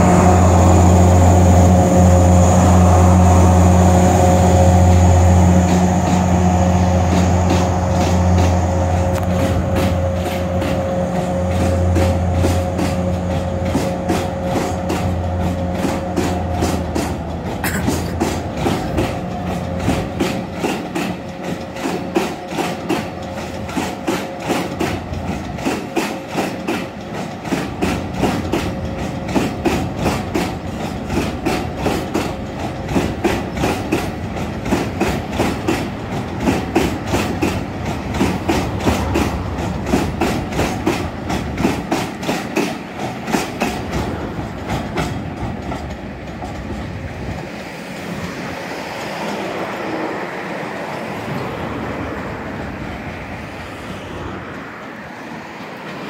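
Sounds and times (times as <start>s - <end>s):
diesel locomotive engine drone: 0.0s - 56.0s
train wheels clickety-clack: 0.0s - 56.0s.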